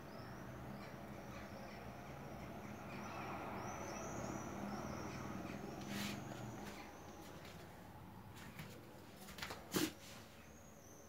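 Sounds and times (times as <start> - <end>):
faint bird chirping: 0.0 - 8.6, 10.0 - 11.0.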